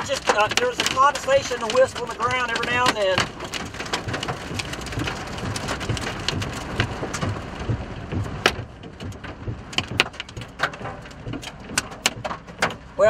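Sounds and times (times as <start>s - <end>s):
rain on car windshield: 0.0s - 13.0s.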